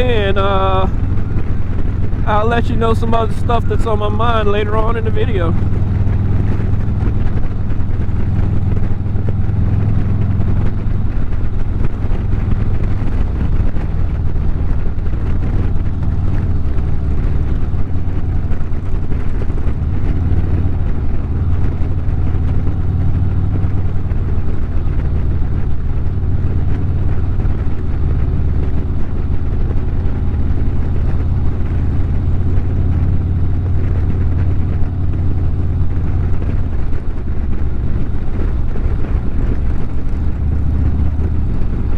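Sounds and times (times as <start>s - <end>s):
motorcycle engine cruising: 0.0s - 41.9s
road and wind noise: 0.0s - 41.9s.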